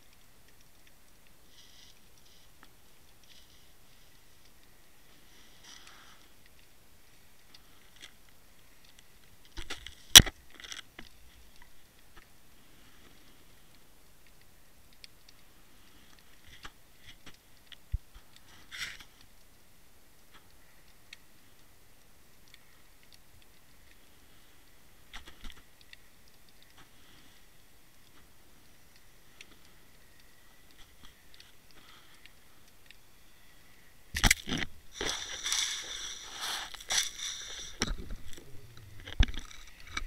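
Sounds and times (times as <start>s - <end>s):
faint underwater crackling: 0.0s - 40.0s.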